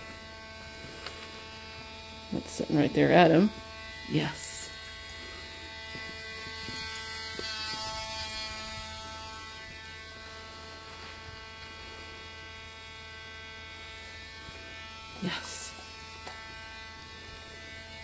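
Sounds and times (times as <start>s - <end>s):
nail grinder motor whine: 0.0s - 18.0s.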